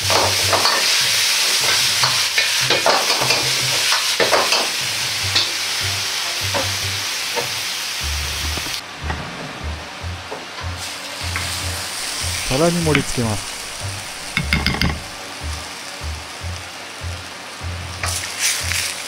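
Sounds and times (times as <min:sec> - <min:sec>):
food sizzling in a wok: 0:00.0 - 0:08.8, 0:10.7 - 0:19.0.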